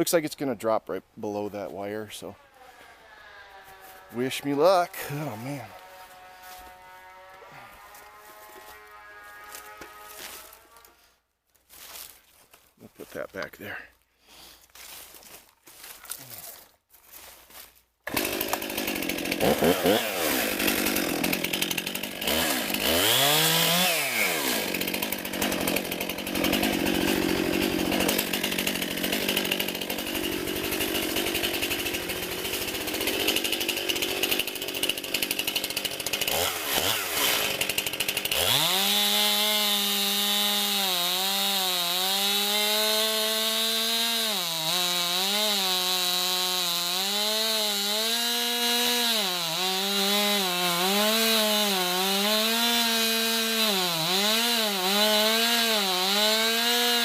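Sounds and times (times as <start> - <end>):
chainsaw cutting wood: 2.1 - 11.0, 17.2 - 57.0.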